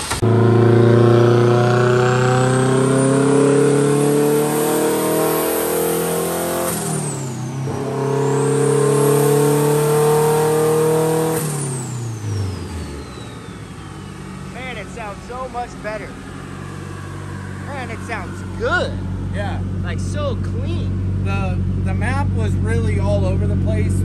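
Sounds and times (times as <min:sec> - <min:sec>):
engine revving hard: 0:00.0 - 0:13.8, 0:14.6 - 0:24.0.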